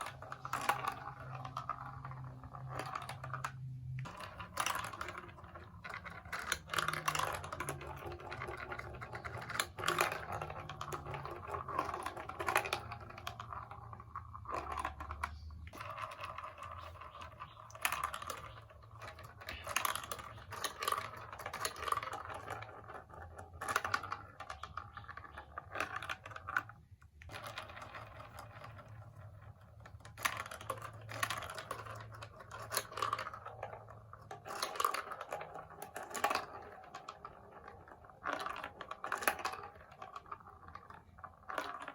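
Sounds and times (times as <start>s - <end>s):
plastic blocks and marbles clattering: 0.0s - 41.9s.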